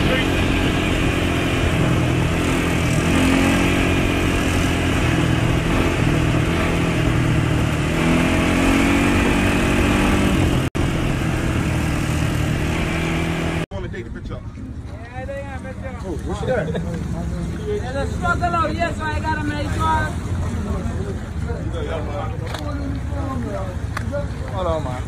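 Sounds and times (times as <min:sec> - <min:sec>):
vehicle engines cruising: 0:00.0 - 0:25.0
wind and road noise: 0:00.0 - 0:25.0.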